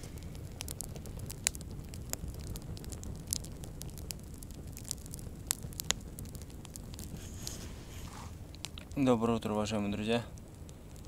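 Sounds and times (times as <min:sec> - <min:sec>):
low steady fire rumble: 0:00.0 - 0:11.0
wood fire crackling and popping: 0:00.0 - 0:11.0.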